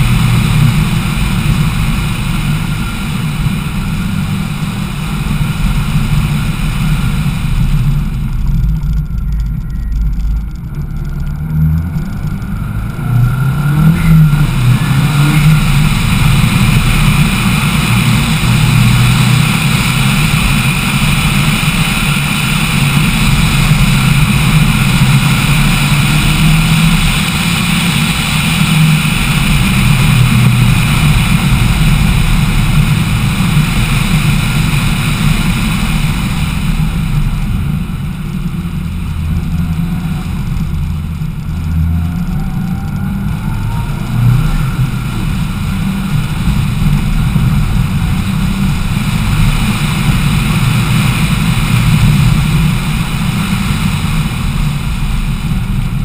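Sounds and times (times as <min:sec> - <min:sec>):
car engine running hard: 0:00.0 - 0:56.0
wind rushing over microphone: 0:00.0 - 0:56.0.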